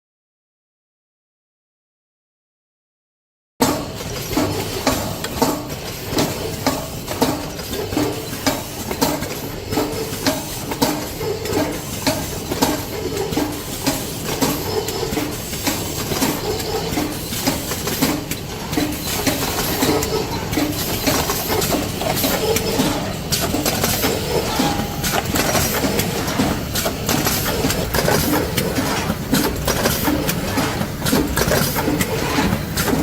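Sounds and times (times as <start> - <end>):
packaging machine clattering: 3.8 - 33.0.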